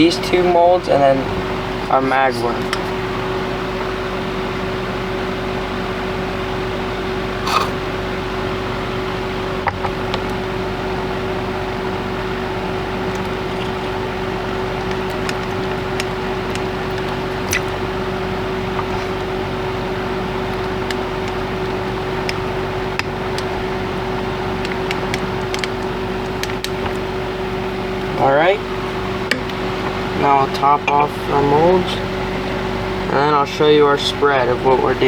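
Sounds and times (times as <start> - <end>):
machine hum with constant tone: 0.0 - 35.0.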